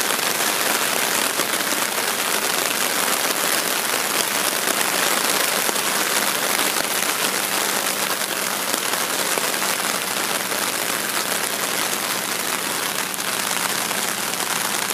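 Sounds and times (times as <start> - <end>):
heavy rain on water and leaves: 0.0 - 14.9.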